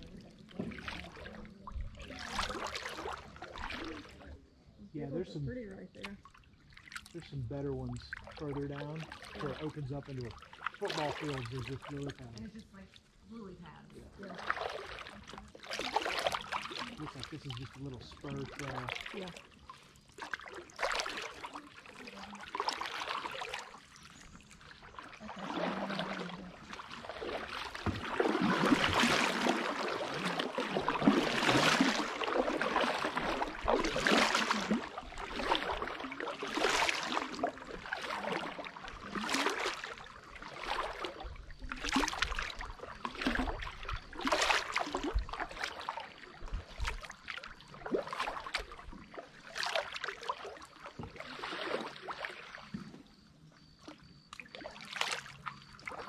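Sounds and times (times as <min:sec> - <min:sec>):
paddle splashing in water: 0:00.0 - 0:04.6, 0:05.9 - 0:56.0.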